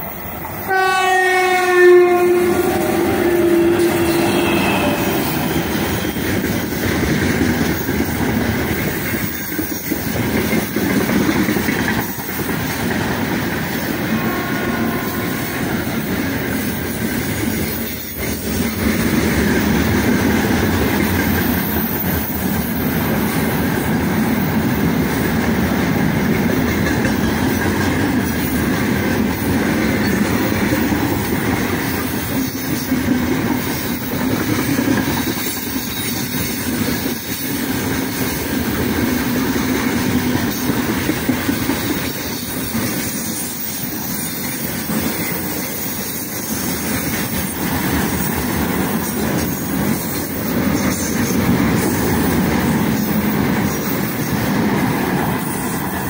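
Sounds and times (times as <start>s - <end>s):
steel wheels rumbling on rails: 0.0s - 56.0s
wheelsets clickety-clack: 6.0s - 13.9s, 16.0s - 56.0s.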